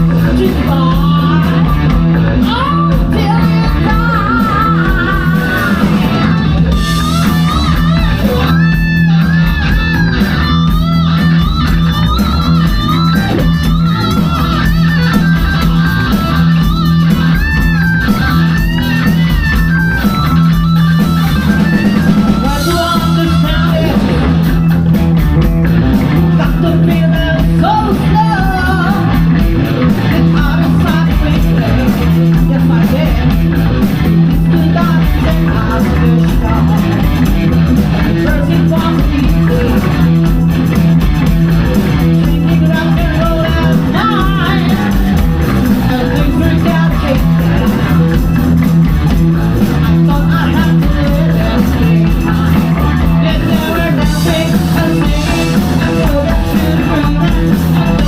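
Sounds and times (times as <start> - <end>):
person singing: 0.0 - 9.6, 10.3 - 24.6, 25.8 - 40.7, 41.7 - 58.0
rock band playing live: 0.0 - 58.0.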